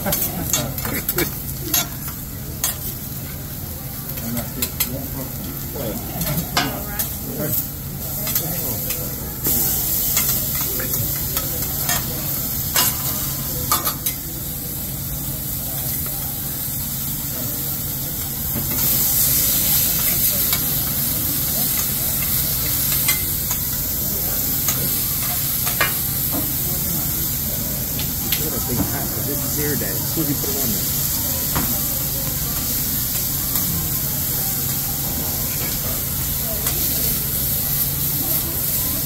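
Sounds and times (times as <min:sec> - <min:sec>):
steaks sizzling on a griddle: 0:00.0 - 0:39.0.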